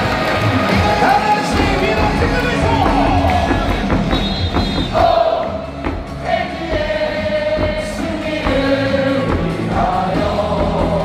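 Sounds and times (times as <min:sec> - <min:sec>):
amplified stadium music: 0:00.0 - 0:11.0
crowd singing in unison: 0:00.0 - 0:11.0
drum beat: 0:00.5 - 0:11.0.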